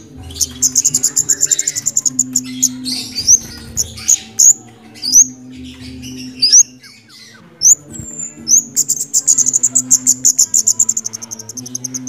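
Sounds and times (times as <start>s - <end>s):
scratchy bird chatter: 0.0s - 12.0s
thrush singing whistled notes: 0.0s - 12.0s.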